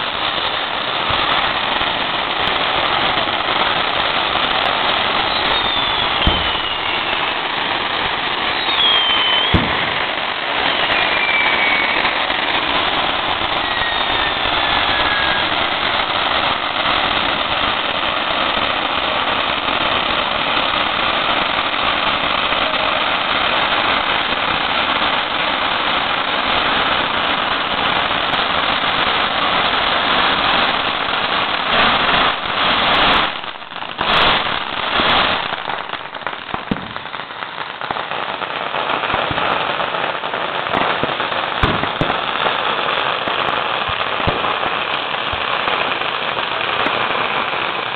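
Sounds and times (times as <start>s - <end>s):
firecracker bangs: 0.0s - 42.7s
fireworks crackling: 0.0s - 47.9s.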